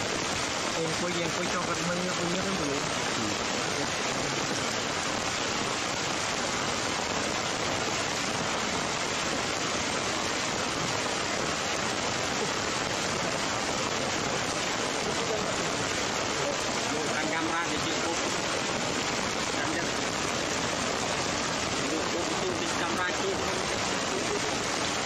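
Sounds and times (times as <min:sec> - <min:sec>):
heavy rain on foliage: 0:00.0 - 0:25.0.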